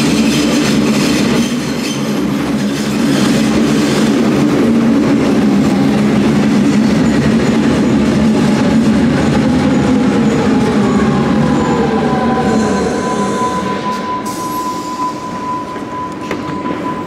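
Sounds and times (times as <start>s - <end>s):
falling whine of slowing train: 0.0s - 17.0s
train wheels rumbling on rail: 0.0s - 17.0s.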